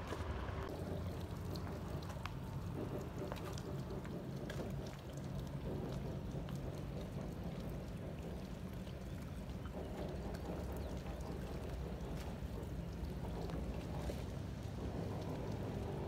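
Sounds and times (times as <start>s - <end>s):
boat engines rumbling: 0.0s - 16.0s
water lapping against boat hulls: 0.0s - 16.0s.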